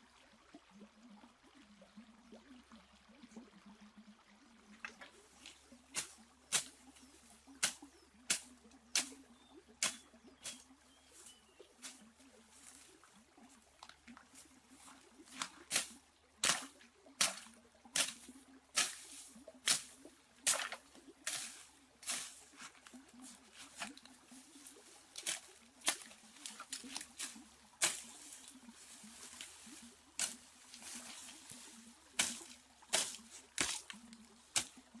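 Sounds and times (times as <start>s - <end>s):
water splashing and slapping: 4.6s - 35.0s.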